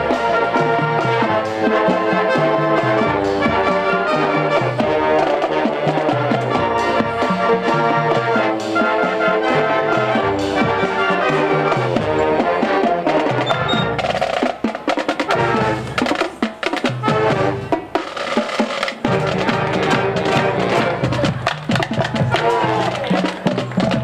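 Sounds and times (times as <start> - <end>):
brass band playing: 0.0 - 24.0
driving drum line: 0.0 - 24.0.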